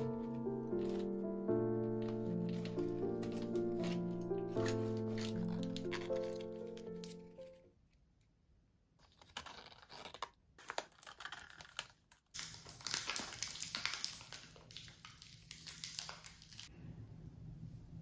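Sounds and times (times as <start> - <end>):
plastic film wrappers crinkling: 0.0 - 7.7, 9.0 - 16.7.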